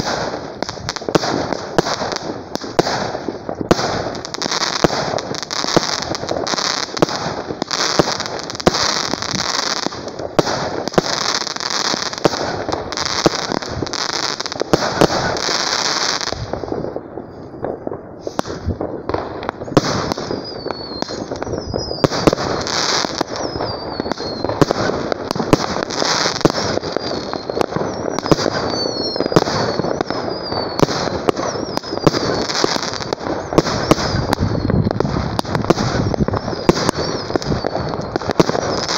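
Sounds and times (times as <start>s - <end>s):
fireworks bangs and crackle: 0.0s - 38.9s
fireworks falling whistles: 0.0s - 38.9s.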